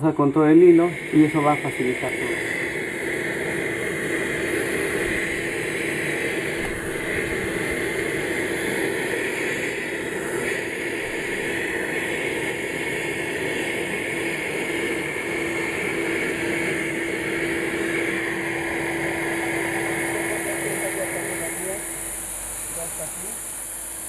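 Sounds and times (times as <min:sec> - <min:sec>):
vacuum cleaner humming: 0:00.0 - 0:24.0.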